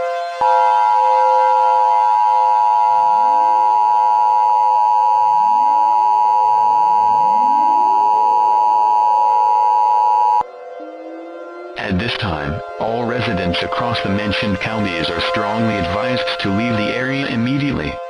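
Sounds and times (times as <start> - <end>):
steady two-tone alarm: 0.0 - 18.0.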